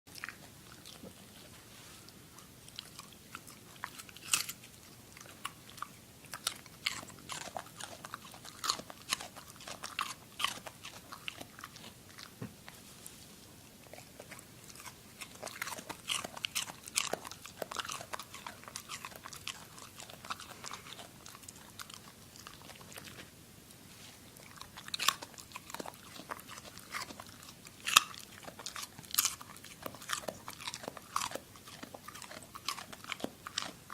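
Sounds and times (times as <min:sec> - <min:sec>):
pet chewing carrot crunches: 0:00.1 - 0:12.8, 0:13.8 - 0:23.3, 0:24.3 - 0:33.9.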